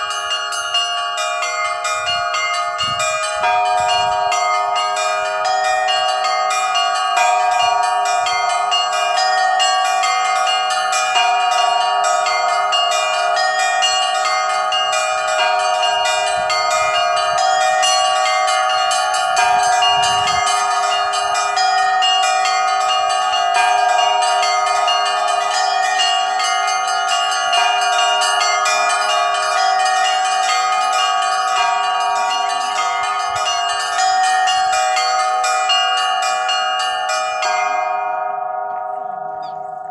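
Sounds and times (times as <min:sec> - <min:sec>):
large bells ringing: 0:00.0 - 0:39.9
small bells struck rapidly: 0:00.0 - 0:39.9.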